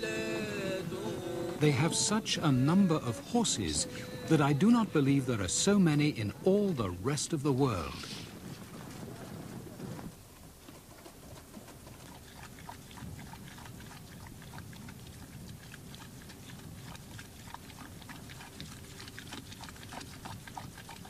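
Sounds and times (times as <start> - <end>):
horse breathing and shifting: 0.6 - 6.8, 7.7 - 21.0.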